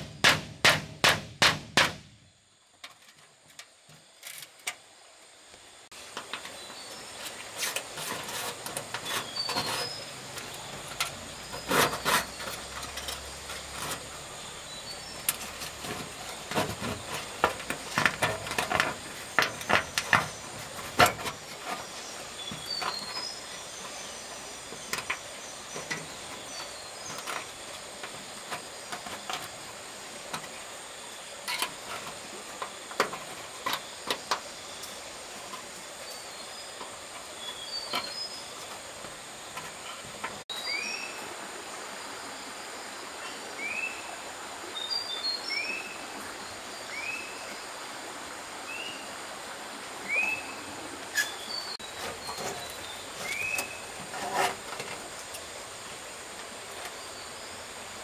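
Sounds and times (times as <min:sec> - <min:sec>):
steady high hiss: 0:00.0 - 0:58.0.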